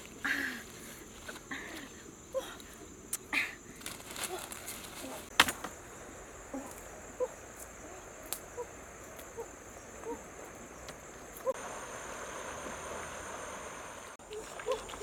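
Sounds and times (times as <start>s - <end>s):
soft hissing noise: 0.0s - 14.2s
crickets droning: 0.0s - 15.0s.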